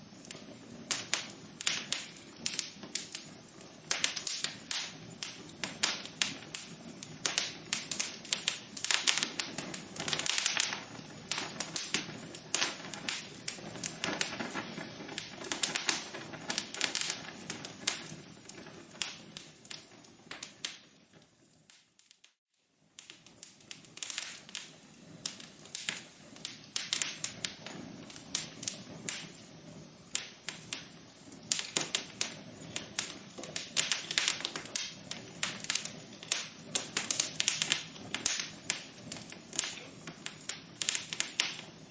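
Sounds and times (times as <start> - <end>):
soft rush of flames: 0.0 - 41.9
wood fire crackling: 0.0 - 41.9.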